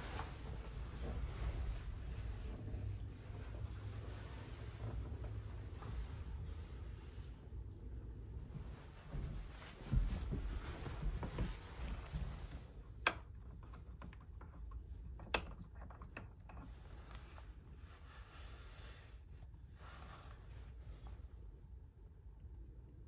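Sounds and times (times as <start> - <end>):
soft rustling: 0.0 - 21.6.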